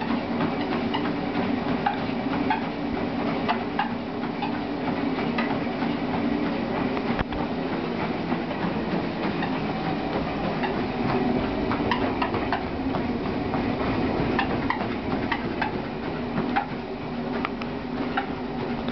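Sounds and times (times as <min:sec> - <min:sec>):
treadmill motor humming: 0:00.0 - 0:18.9.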